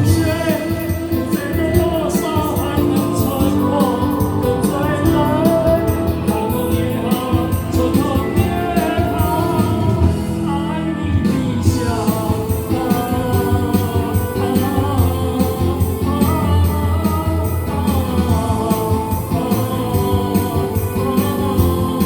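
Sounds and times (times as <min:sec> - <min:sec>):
backing track with beat: 0:00.0 - 0:22.0
person singing: 0:00.0 - 0:22.0.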